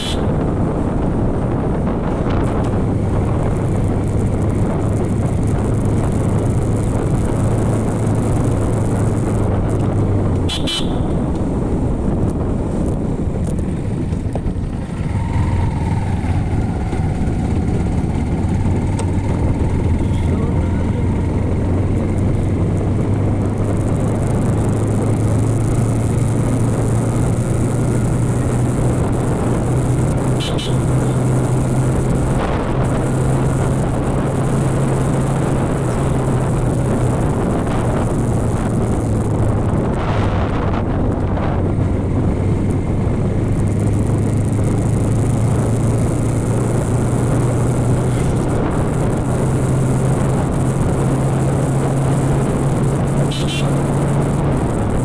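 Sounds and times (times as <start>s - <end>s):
motorcycle engine humming: 0.0s - 55.0s
wind noise on microphone: 0.0s - 55.0s.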